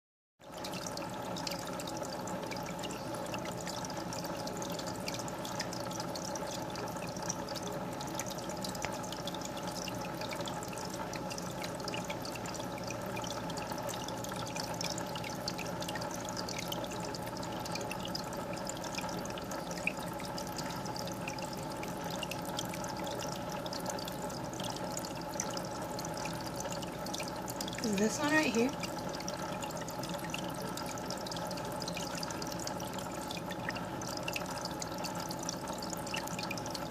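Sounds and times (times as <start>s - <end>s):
water trickling and splashing: 0.4s - 36.9s
filter hum: 0.5s - 36.9s.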